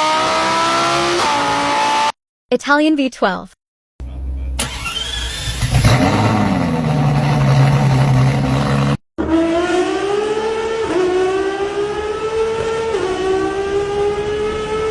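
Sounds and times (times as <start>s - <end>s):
car engine accelerating: 0.0s - 2.2s, 4.1s - 14.9s.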